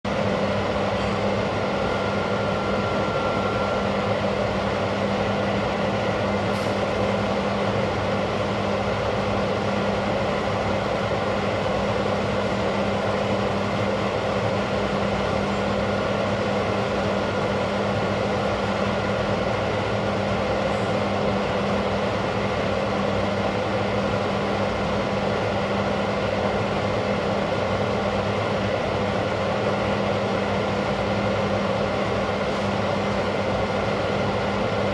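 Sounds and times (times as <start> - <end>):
machinery low hum: 0.1 - 34.9.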